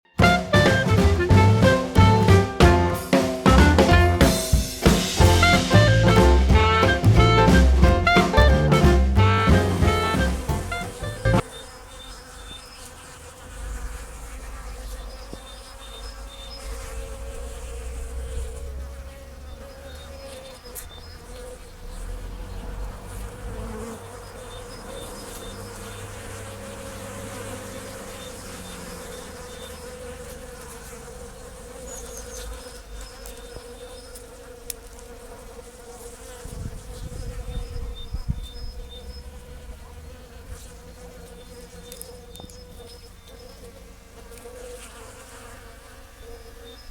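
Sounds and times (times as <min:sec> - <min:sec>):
bees buzzing: 0:00.1 - 0:46.9.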